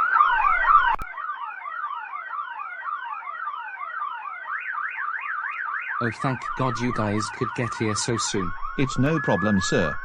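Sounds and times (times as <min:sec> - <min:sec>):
fire alarm whooping: 0:00.0 - 0:10.0
fire engine siren: 0:00.0 - 0:10.0.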